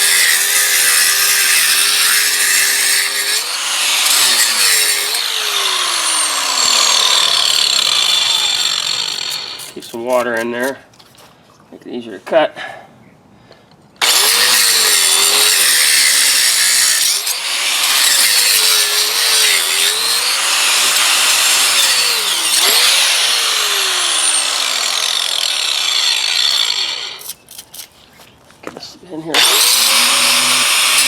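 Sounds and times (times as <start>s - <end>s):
angle grinder cutting concrete: 0.0s - 10.8s, 14.0s - 27.4s, 29.3s - 31.0s.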